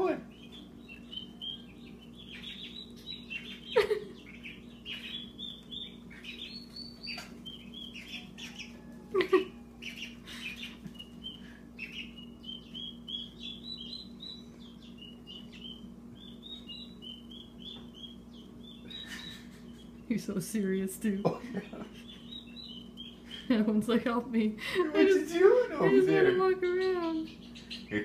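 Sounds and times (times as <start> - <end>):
turkey poults peeping: 0.0 - 20.3, 21.2 - 23.7, 25.0 - 28.0.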